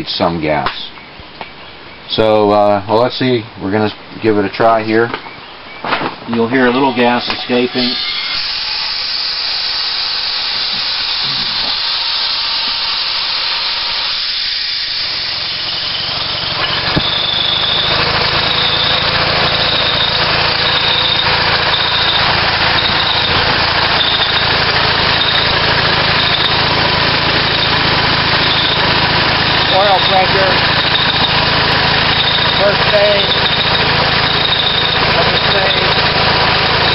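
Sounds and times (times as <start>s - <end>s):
natural gas hissing: 6.2s - 36.9s
high squeak: 6.3s - 36.9s
gas engine running: 6.6s - 36.9s.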